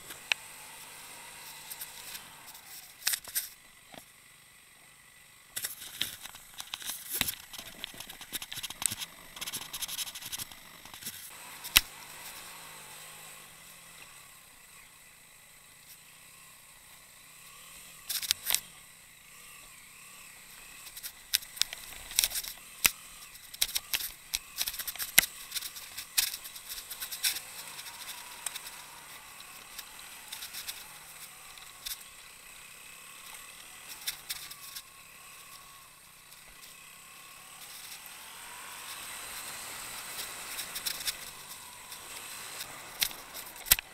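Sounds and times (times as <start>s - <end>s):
faint motorcycle engine: 0.0s - 43.9s.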